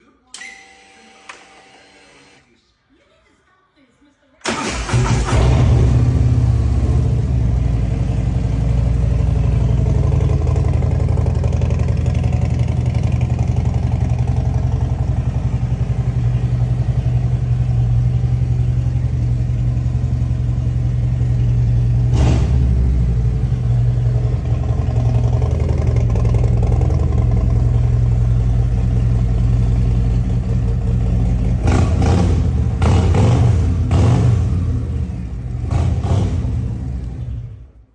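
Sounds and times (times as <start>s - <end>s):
motorcycle engine idling and revving: 4.9s - 37.9s.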